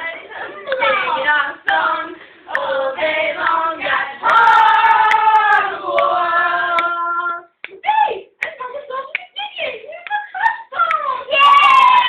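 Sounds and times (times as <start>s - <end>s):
girls singing together: 0.0s - 12.0s.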